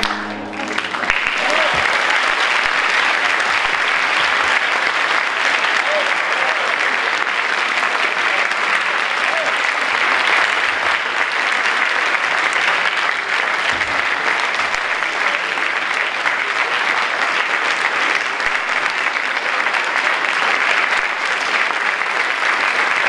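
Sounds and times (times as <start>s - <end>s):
audience applauding: 0.0s - 23.0s.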